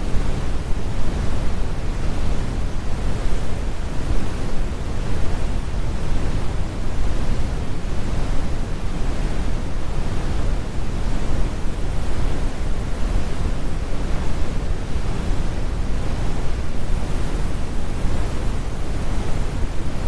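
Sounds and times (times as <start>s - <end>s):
brown noise rumble: 0.0s - 20.0s.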